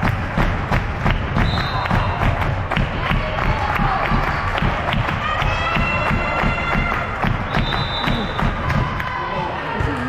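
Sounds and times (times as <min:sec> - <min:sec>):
rhythmic clapping: 0:00.0 - 0:10.0
spectators cheering and shouting: 0:01.3 - 0:10.0.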